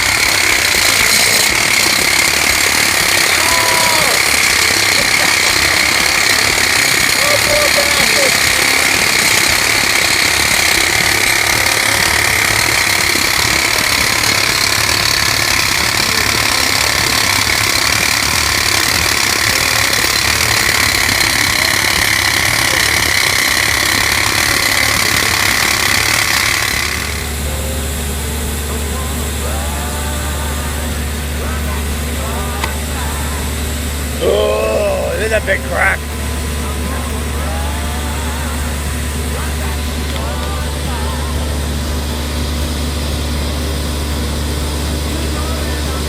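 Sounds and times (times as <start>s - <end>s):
machine engine running low: 0.0s - 46.0s
rock drill hammering: 0.0s - 46.0s.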